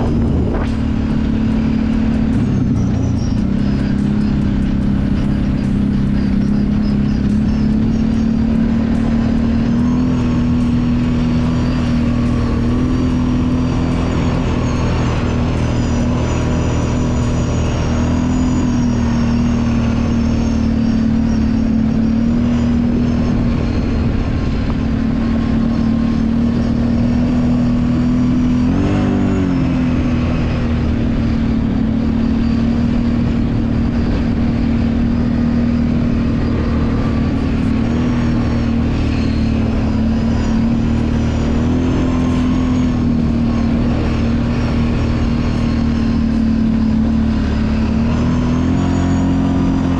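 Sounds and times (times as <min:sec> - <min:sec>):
atv engine running: 0:00.0 - 0:49.9.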